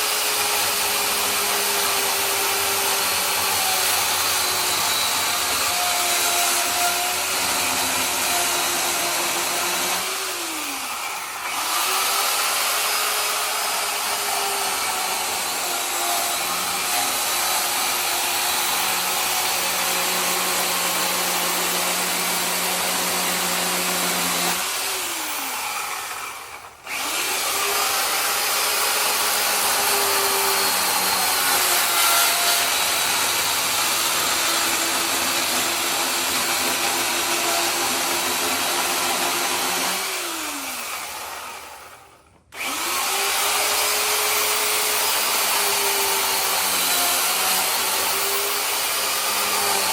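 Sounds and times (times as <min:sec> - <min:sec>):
electric chainsaw carving wood: 0:00.0 - 0:49.9.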